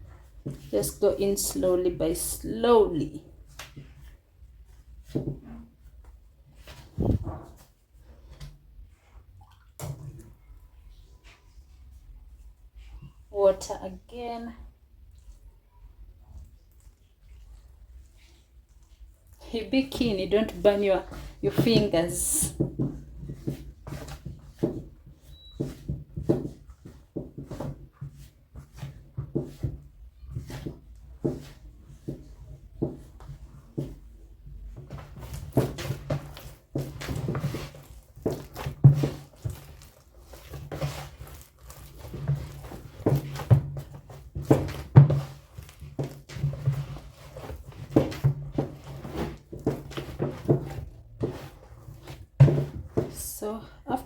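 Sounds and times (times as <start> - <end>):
hands squishing dough: 0.0 - 54.0.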